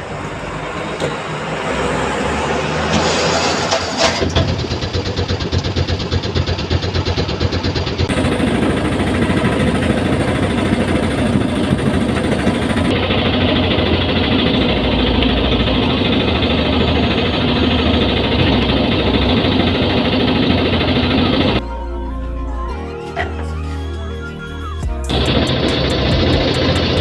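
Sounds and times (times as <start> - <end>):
vehicle engine running: 0.0 - 21.6, 23.5 - 27.0.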